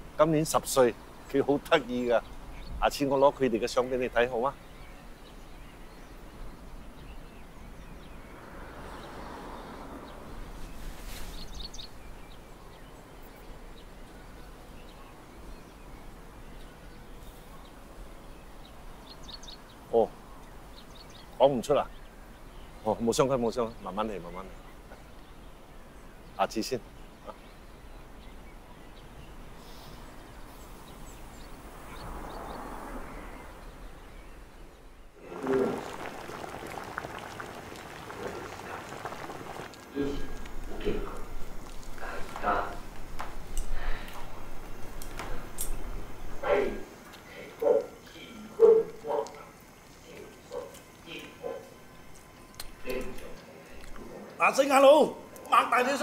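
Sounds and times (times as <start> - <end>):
steady hiss: 9.2 - 56.0.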